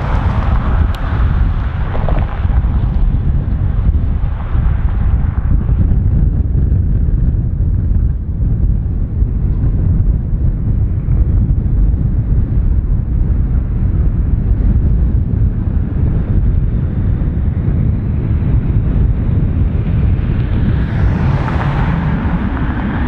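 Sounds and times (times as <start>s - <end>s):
jet landing rumble: 0.0s - 23.0s
wind buffeting microphone: 0.0s - 23.0s.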